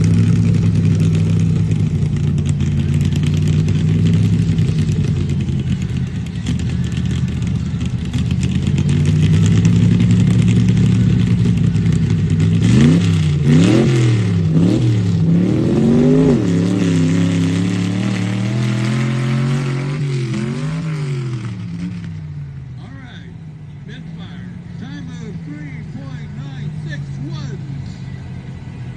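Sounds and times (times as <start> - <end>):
misfiring engine idling and revving: 0.0 - 28.9.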